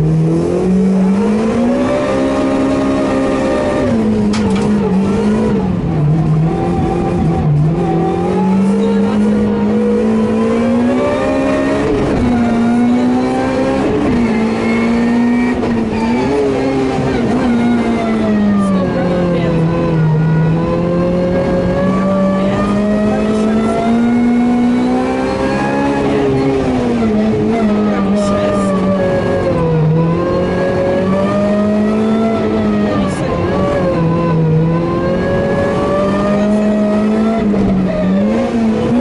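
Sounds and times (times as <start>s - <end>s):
rally car engine accelerating: 0.0s - 39.0s.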